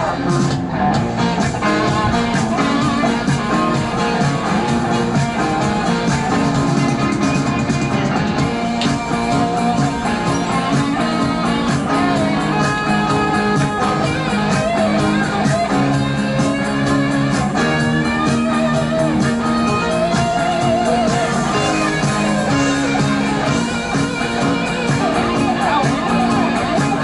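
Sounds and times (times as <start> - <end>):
rock song with guitar: 0.0 - 27.0.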